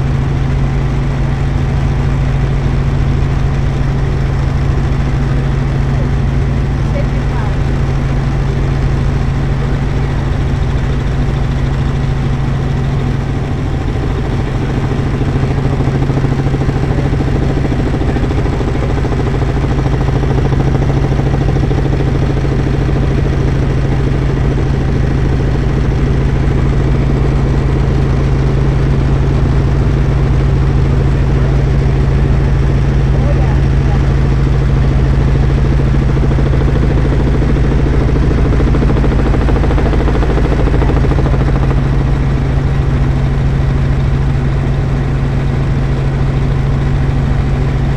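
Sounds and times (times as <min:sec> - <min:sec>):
helicopter drone from cabin: 0:00.0 - 0:47.9.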